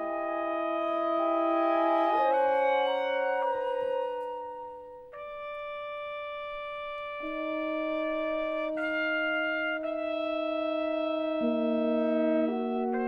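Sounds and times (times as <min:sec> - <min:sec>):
woodwind and brass ensemble: 0:00.0 - 0:13.0.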